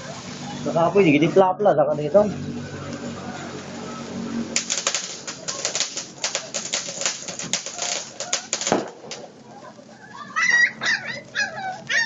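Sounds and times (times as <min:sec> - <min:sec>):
firecracker crackling pops: 0:02.2 - 0:12.0.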